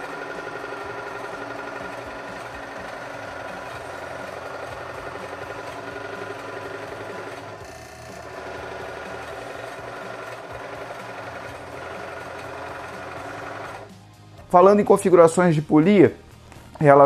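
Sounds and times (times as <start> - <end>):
drill press motor running: 0.0 - 14.0.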